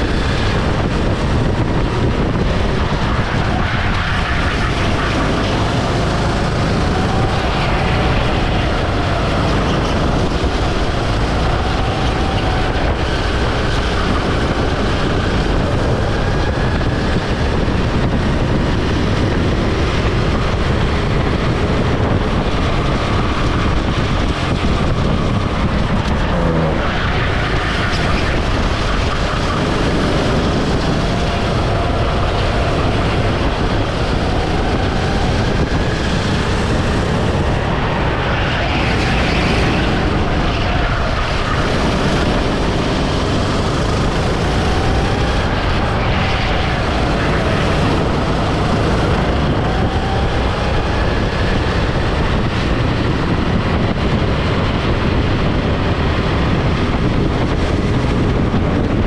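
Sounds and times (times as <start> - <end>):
kart engine whine: 0.0 - 59.0
road rumble: 0.0 - 59.0
wind rush: 0.0 - 59.0.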